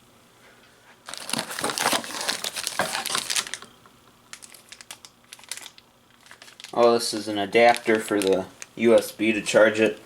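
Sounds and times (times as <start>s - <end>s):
plastic packaging crinkling: 1.0s - 9.2s.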